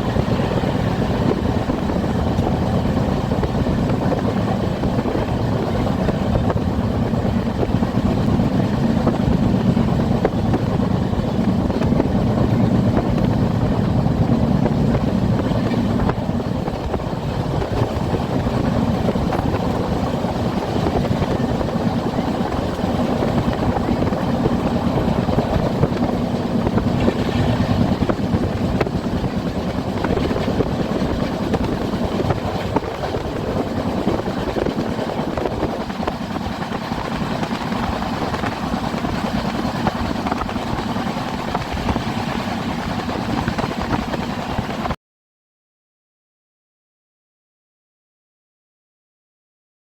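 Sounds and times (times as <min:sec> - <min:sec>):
train rumbling on track: 0:00.0 - 0:45.0.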